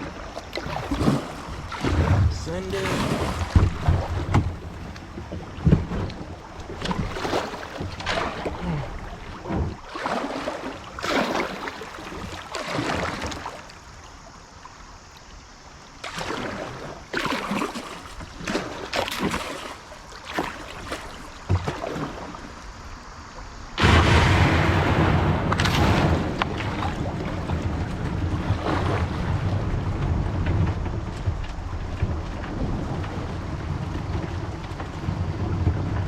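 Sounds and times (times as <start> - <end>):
kayak paddle splashing: 0.0 - 36.0.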